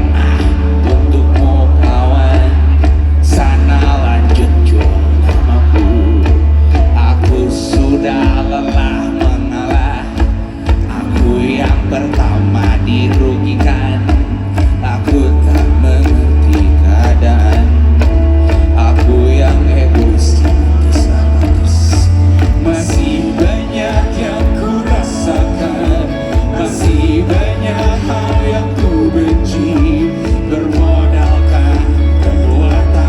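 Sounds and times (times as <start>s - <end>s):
live band music: 0.0s - 33.0s
person singing: 0.0s - 33.0s.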